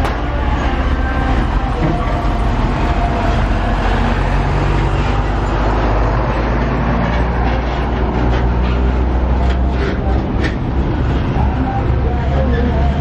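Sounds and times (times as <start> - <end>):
truck engine and tyre rumble: 0.0 - 13.0.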